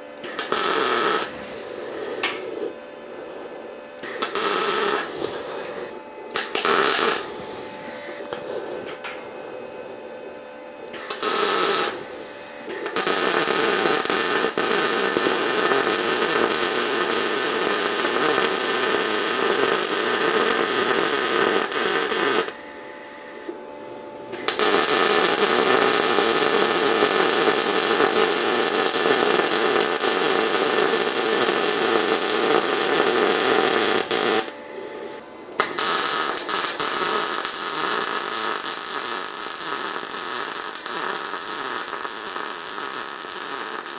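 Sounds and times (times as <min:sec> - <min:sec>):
power tool running: 0:00.0 - 0:02.7, 0:04.0 - 0:08.4, 0:10.8 - 0:23.6, 0:24.3 - 0:43.9.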